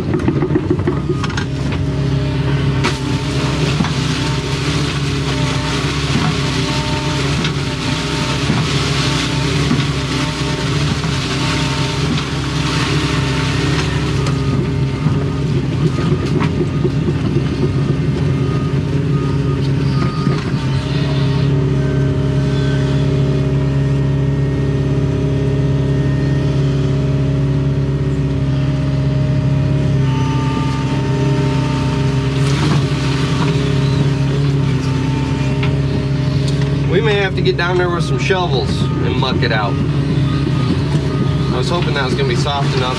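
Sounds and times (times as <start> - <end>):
excavator diesel engine running: 0.0 - 42.9
hydraulic whine: 0.0 - 42.9.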